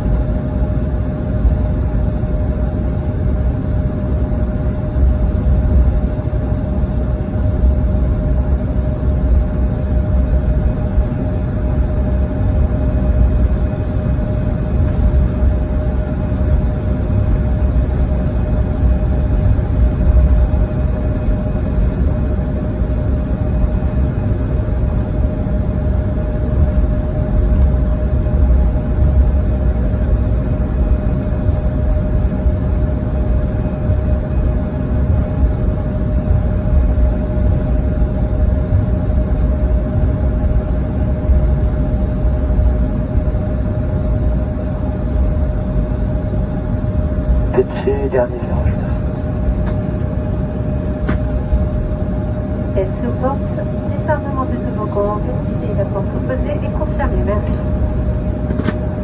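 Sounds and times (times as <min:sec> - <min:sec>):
mid-pitched cabin hum: 0:00.0 - 0:59.0.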